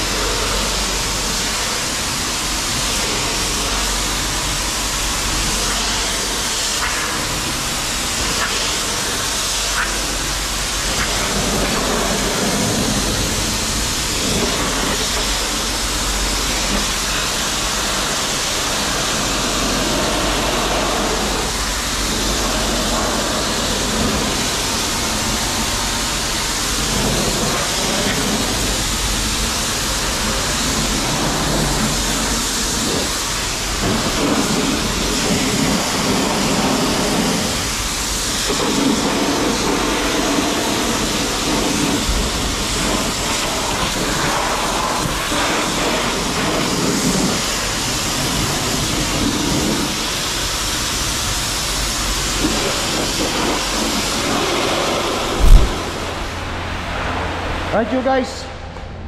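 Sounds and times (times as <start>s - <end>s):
pressure washer spraying water: 0.0s - 56.7s.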